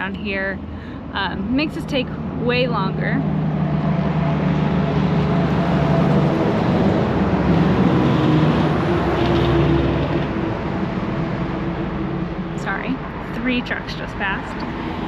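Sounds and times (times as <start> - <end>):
trucks driving past: 0.0 - 15.0.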